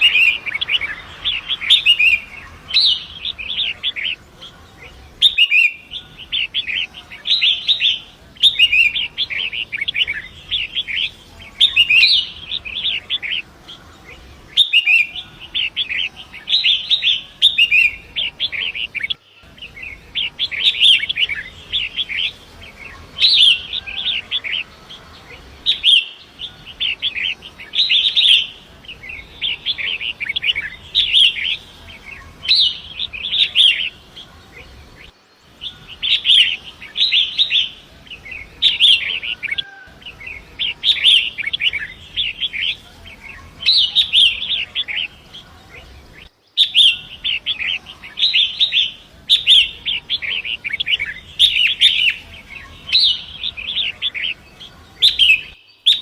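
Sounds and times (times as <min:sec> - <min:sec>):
bird singing chattering phrases: 0:00.0 - 0:56.0.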